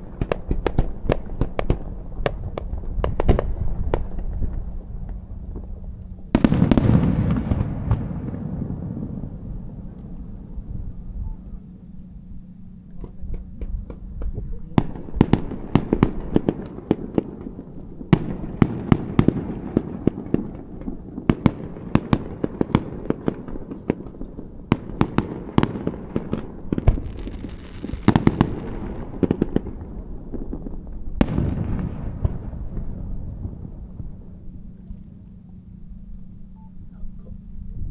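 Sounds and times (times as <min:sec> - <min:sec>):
fireworks crackling: 0:00.0 - 0:10.7, 0:13.0 - 0:35.2
fireworks bangs: 0:00.0 - 0:11.0, 0:13.0 - 0:34.6.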